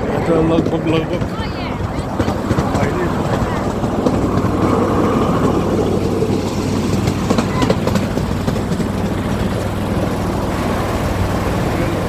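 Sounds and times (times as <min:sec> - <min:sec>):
miniature train rumbling: 0:00.0 - 0:12.0
wheels clicking over rail joints: 0:00.0 - 0:12.0.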